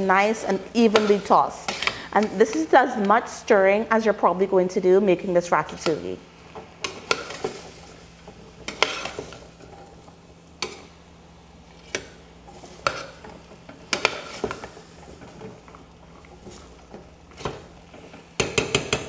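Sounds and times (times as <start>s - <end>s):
spoon stirring vegetables in pot: 0.2s - 4.2s, 5.5s - 11.0s, 11.7s - 19.0s.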